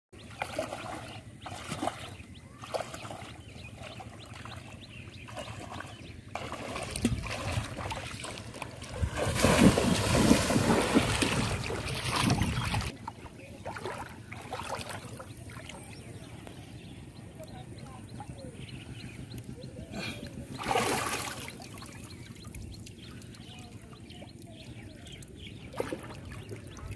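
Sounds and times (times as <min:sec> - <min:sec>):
water sloshing and splashing: 0:00.2 - 0:16.7, 0:20.3 - 0:26.9.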